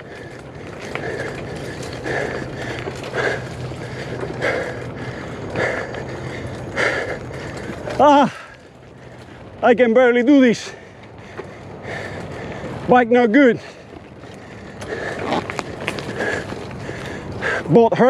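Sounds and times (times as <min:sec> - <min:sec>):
bicycle frame creaking: 0:00.0 - 0:18.0
bicycle tyres rolling rumble: 0:00.0 - 0:18.0.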